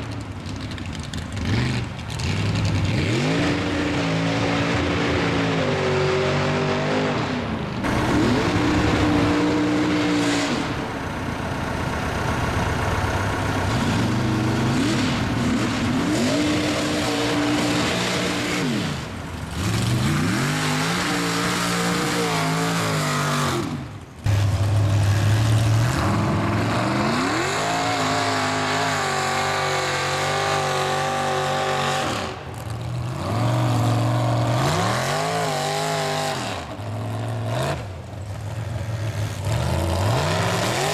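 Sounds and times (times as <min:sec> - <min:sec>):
truck engines revving: 0:00.0 - 0:40.9.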